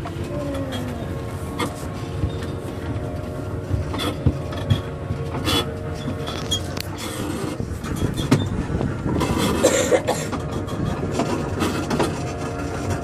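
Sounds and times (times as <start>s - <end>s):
miniature train rumble: 0.0s - 13.0s.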